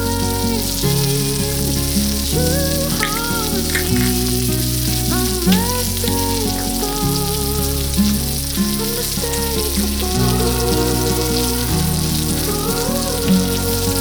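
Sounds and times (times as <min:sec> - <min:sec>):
pop song playing: 0:00.0 - 0:14.0
steady sizzling hiss: 0:00.0 - 0:14.0.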